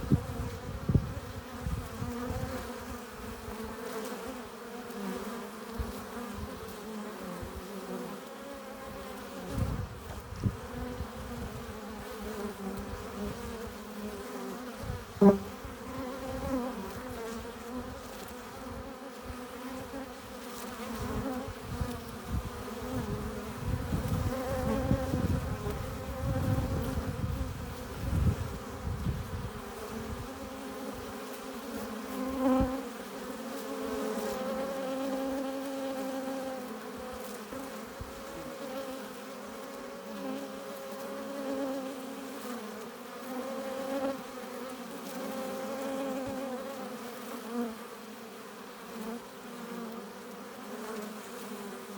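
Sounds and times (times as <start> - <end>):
bees buzzing: 0.0 - 51.9.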